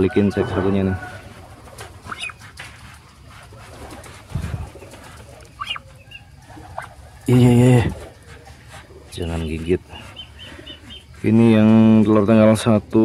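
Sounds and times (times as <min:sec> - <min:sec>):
straw rustling: 0:00.8 - 0:12.0.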